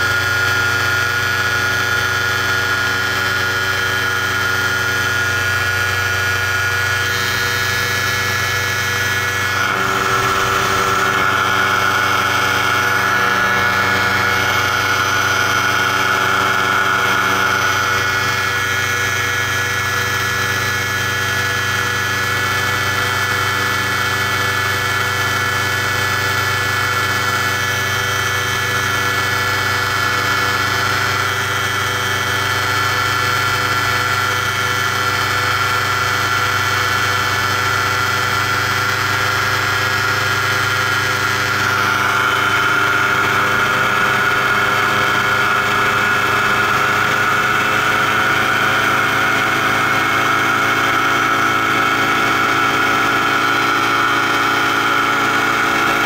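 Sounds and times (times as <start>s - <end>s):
paramotor engine and propeller: 0.0s - 56.0s.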